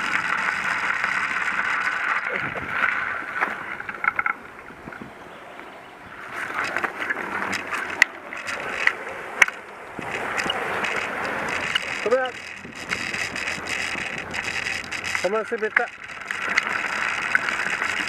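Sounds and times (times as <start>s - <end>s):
bicycle tyres crunching on gravel: 0.0s - 18.0s.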